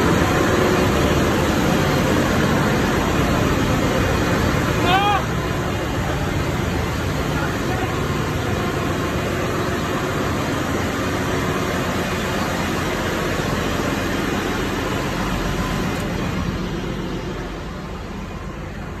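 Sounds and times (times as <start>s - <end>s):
engine room machinery: 0.0s - 19.0s.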